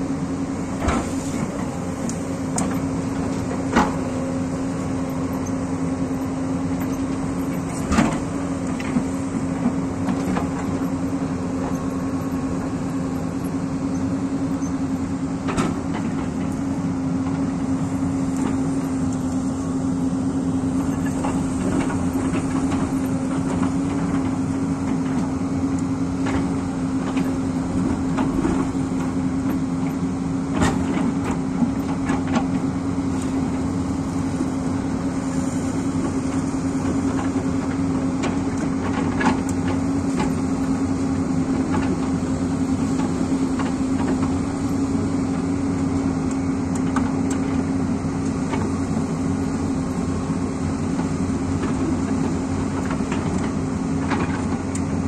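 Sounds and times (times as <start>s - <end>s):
excavator diesel engine humming: 0.0s - 55.0s.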